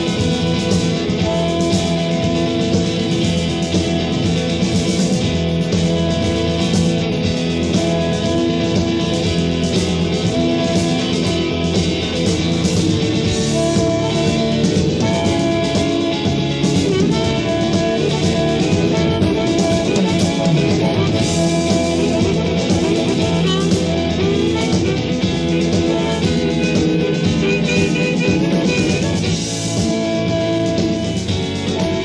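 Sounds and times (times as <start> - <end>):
bass guitar: 0.0 - 32.0
drum kit: 0.0 - 32.0
guitars: 0.0 - 32.0.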